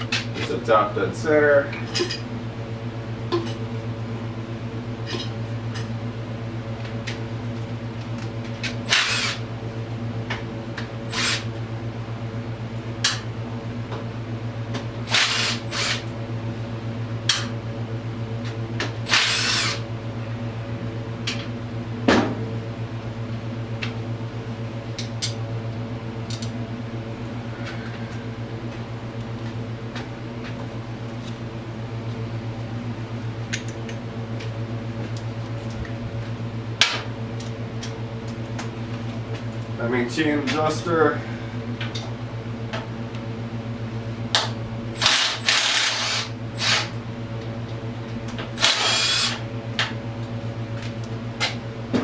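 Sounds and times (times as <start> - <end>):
fan motor humming: 0.0 - 52.0.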